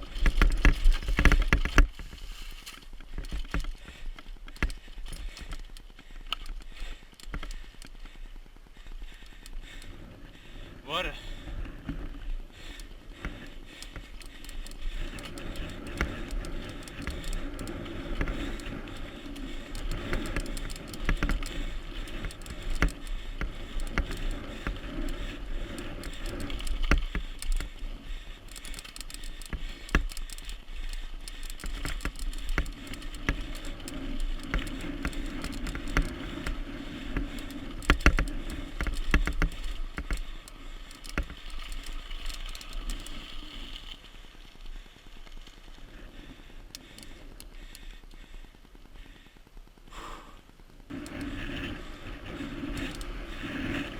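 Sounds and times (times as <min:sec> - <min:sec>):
bicycle chain and frame rattling: 0:00.0 - 0:49.3, 0:50.9 - 0:53.9.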